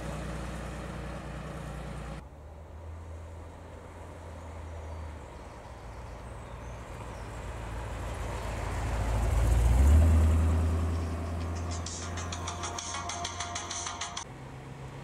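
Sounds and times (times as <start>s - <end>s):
car engine passing by: 0.0s - 15.0s.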